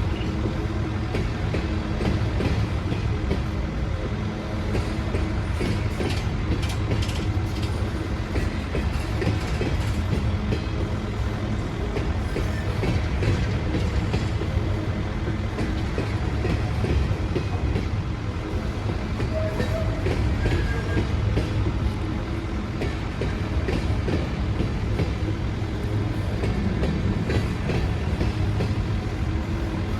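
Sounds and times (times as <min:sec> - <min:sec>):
train rumbling on track: 0:00.0 - 0:29.9.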